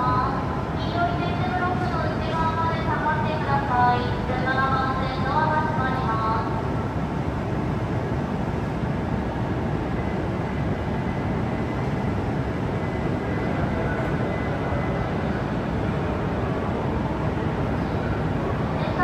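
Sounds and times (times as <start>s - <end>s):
stationary train hum: 0.0s - 19.0s.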